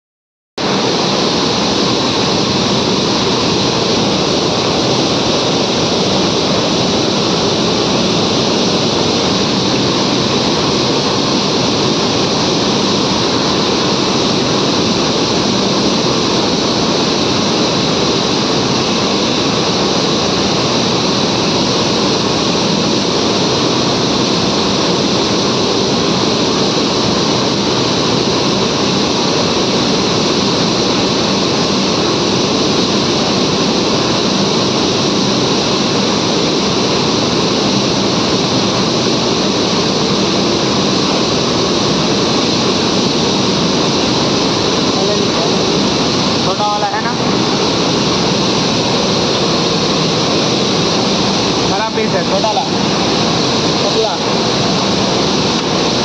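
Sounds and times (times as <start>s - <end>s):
mill machinery running: 0.6s - 56.0s.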